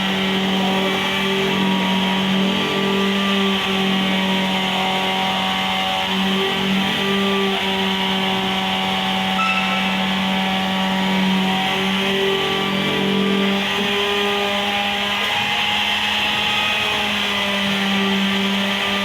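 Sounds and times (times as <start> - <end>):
electric sander running: 0.0 - 19.0.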